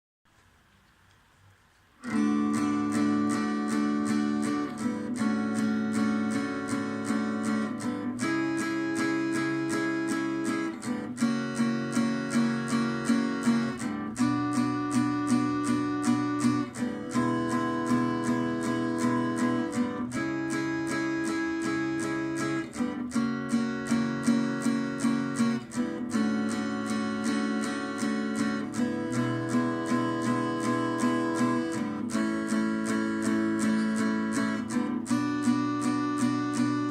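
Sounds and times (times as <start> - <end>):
acoustic guitar strumming chords: 2.0 - 36.9.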